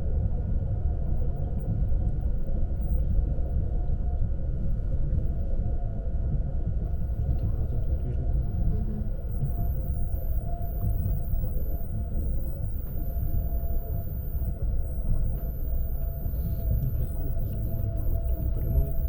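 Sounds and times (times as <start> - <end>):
electric train rumble and whine: 0.0 - 19.0.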